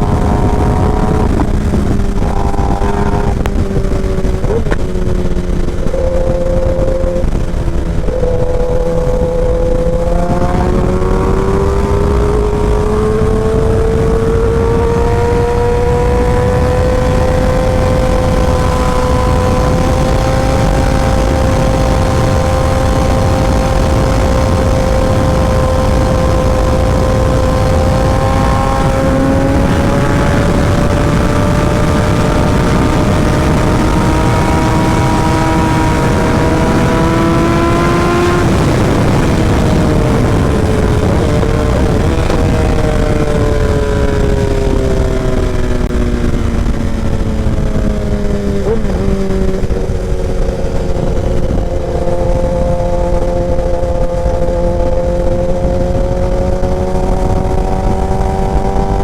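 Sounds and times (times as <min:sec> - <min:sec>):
motorcycle engine running: 0:00.0 - 0:59.0
wind rush: 0:00.0 - 0:59.0.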